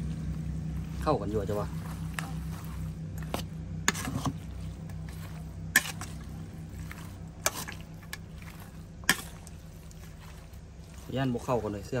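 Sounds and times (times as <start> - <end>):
wet squishing of salad: 0.0 - 12.0.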